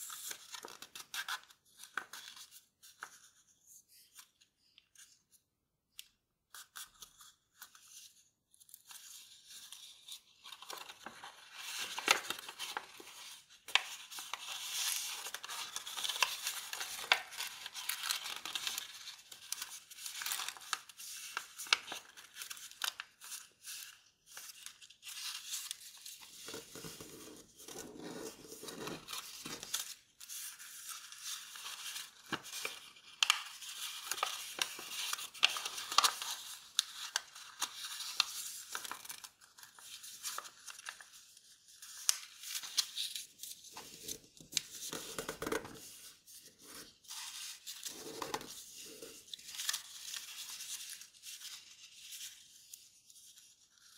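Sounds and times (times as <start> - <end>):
paper rustling and crinkling: 6.5 - 53.9.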